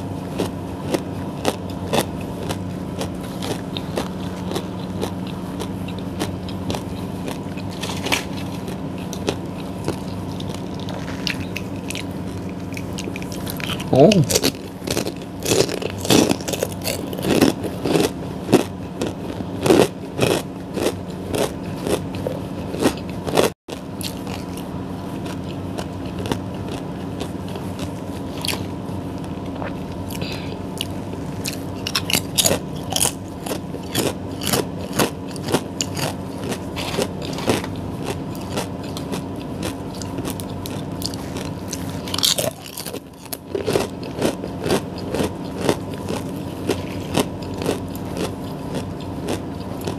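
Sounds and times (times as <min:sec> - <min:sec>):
crunchy chewing: 0:00.0 - 0:49.9
steady low hum: 0:00.0 - 0:49.9.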